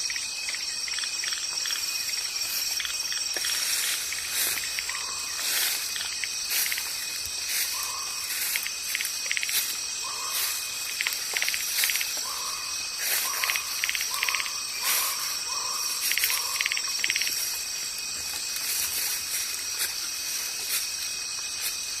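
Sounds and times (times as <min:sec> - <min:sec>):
insects shrilling: 0:00.0 - 0:22.0.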